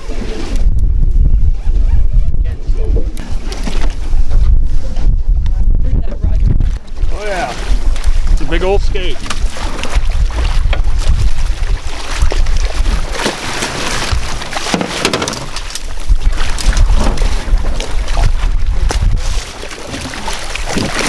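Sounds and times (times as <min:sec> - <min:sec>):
steady low rumble: 0:00.0 - 0:14.7, 0:15.4 - 0:21.0
water splashing and churning: 0:02.5 - 0:05.2, 0:06.0 - 0:21.0.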